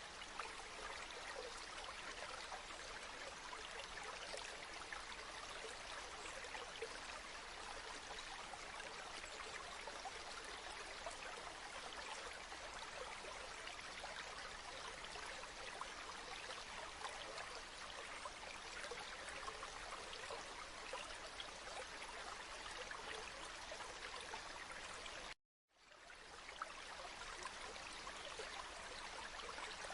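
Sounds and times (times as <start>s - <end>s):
river water flowing: 0.0s - 29.9s.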